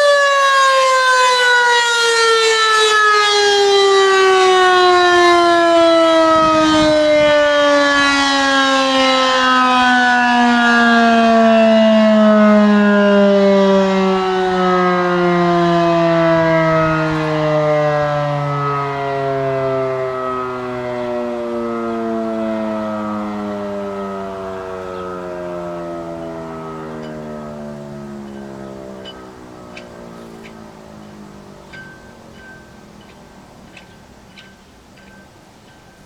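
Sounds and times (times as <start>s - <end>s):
warning siren winding down: 0.0s - 36.0s.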